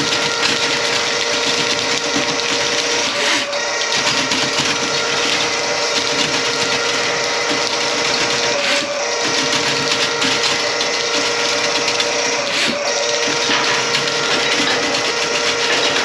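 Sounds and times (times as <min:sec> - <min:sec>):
drain-cleaning machine motor whir: 0:00.0 - 0:16.0.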